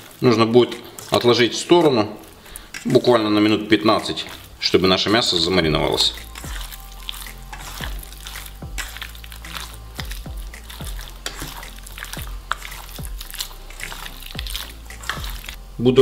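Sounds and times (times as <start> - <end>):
hands squelching raw chicken: 0.0 - 15.6
background music with beat: 0.0 - 16.0.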